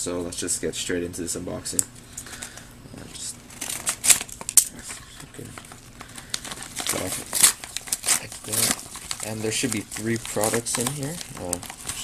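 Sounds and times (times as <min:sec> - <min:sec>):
plastic bag crinkling: 0:02.2 - 0:12.0.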